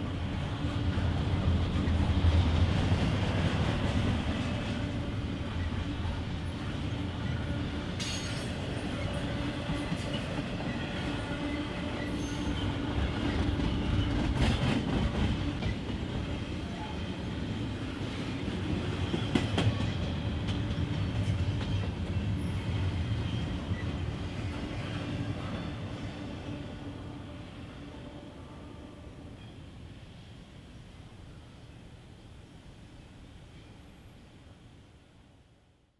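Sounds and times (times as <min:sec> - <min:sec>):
train wheel rumble: 0:00.0 - 0:29.4.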